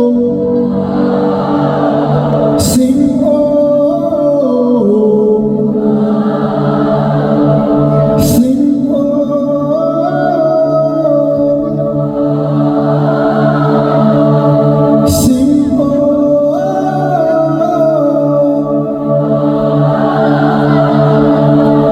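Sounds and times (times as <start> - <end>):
voices singing held notes: 0.0 - 21.9.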